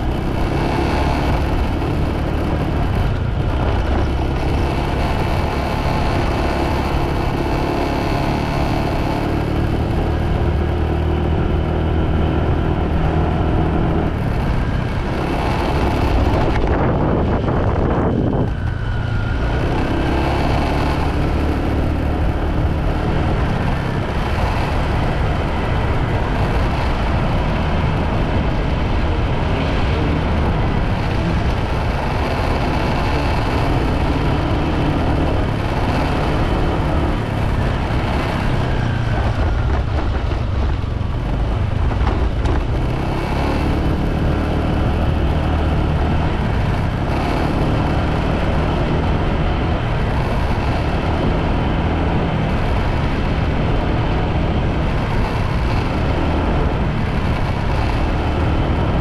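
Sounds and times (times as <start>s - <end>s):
motorbike engine running: 0.0s - 59.0s
wind and road noise: 0.0s - 59.0s.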